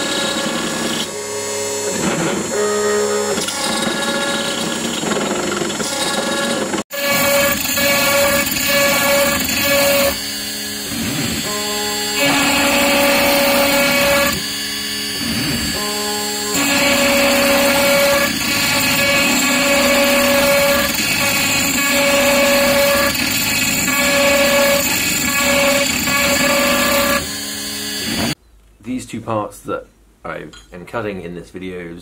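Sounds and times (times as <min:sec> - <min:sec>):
router spindle cutting metal: 0:00.0 - 0:28.4.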